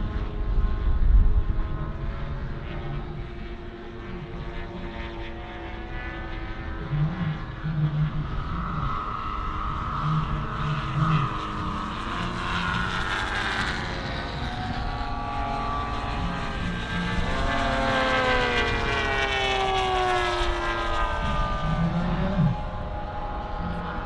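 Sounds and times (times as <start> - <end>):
model plane propeller engine: 0.0 - 24.0.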